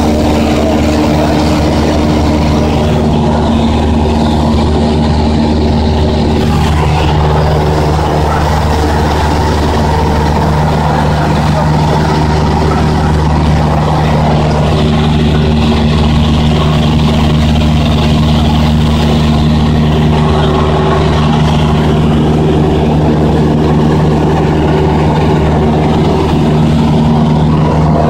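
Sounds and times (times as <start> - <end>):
aircraft engine drone in cabin: 0.0 - 28.0.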